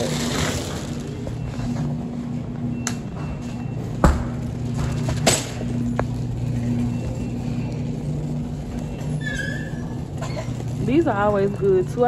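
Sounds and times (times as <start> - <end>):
freezer hum: 0.0 - 12.0.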